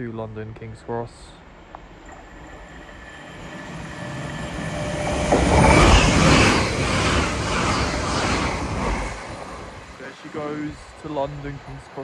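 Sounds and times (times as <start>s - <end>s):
electric train passing at speed: 0.0s - 12.0s
wheel-on-rail noise: 0.0s - 12.0s.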